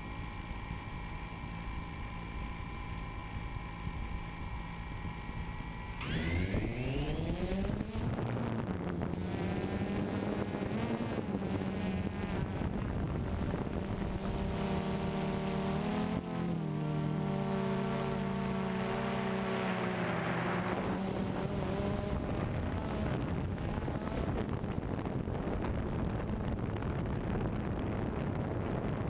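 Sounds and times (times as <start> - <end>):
drone motors humming: 0.0 - 29.0.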